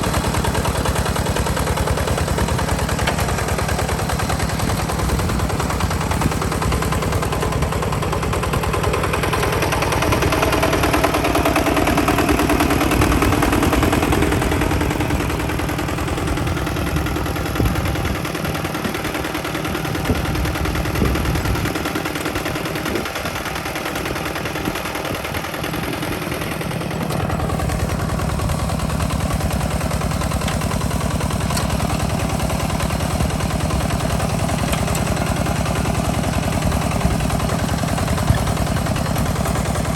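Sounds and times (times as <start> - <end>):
hand tractor engine chugging: 0.0 - 39.9.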